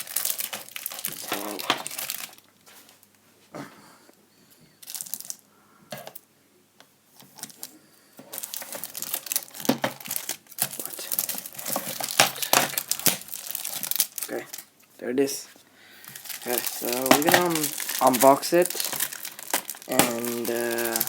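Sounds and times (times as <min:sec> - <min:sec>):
packaging crinkling and rustling: 0:00.0 - 0:03.1, 0:04.8 - 0:05.4, 0:07.2 - 0:21.0.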